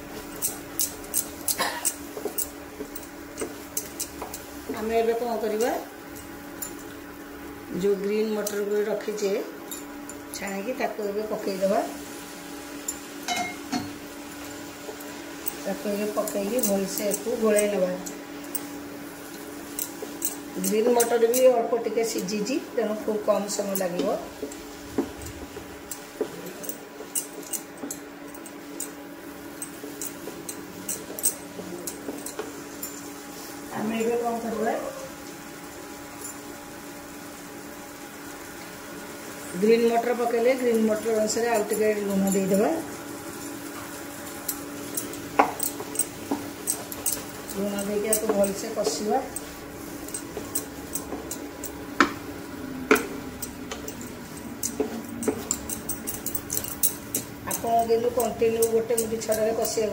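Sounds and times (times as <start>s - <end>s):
steady low hum: 0.0s - 37.2s, 39.2s - 59.9s.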